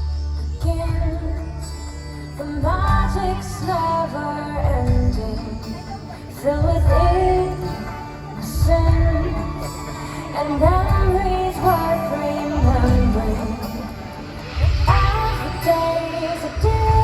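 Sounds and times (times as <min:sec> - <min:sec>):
full musical backing: 0:00.0 - 0:17.0
woman singing slow melody: 0:00.0 - 0:17.0.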